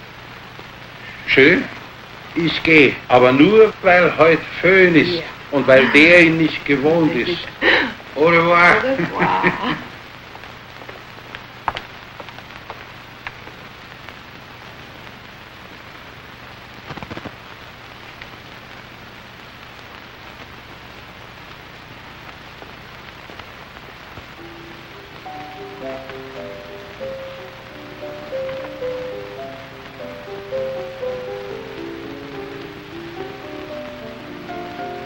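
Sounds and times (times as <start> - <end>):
film soundtrack hiss and hum: 0.0 - 35.0.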